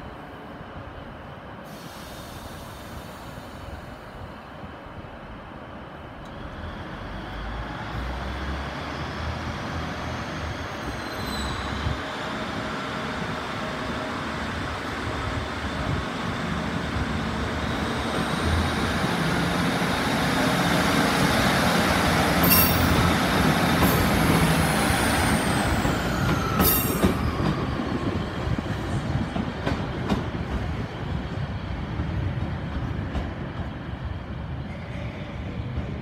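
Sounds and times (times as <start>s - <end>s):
diesel train passing: 0.0s - 36.0s.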